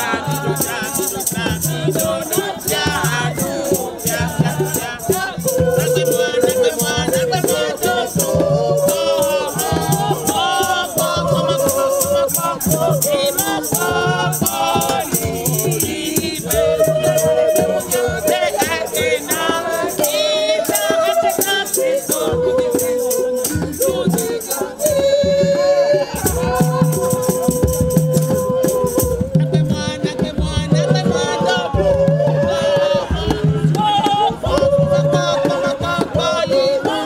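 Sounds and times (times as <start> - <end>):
people singing: 0.0 - 37.0.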